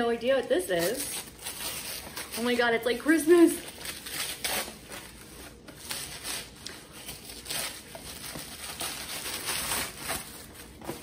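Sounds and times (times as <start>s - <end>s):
tissue paper crinkling: 0.8s - 11.0s.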